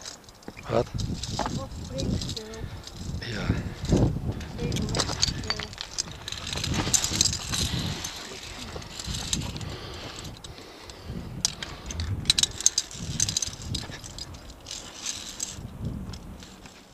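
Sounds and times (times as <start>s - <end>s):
low rumbling and bumping: 0.0s - 16.8s
carabiners clinking on steel cable: 0.0s - 16.9s.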